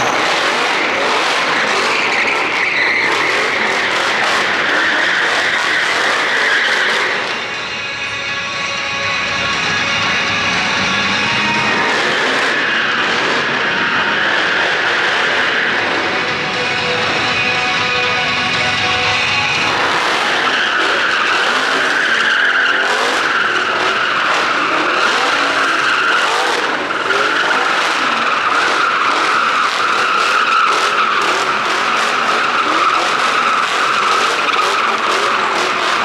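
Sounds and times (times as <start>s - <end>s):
tyres screeching on pavement: 0.0s - 7.8s, 9.7s - 36.0s
engines revving: 0.0s - 36.0s.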